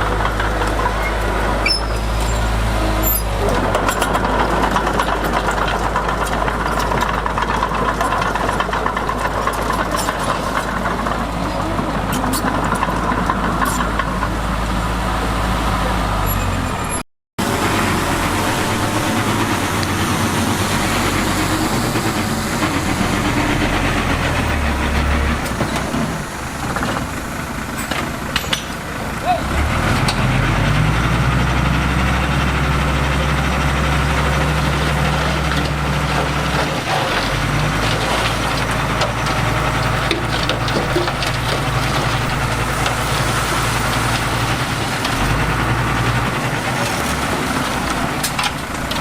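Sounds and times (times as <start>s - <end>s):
diesel machinery engine drone: 0.0s - 49.0s.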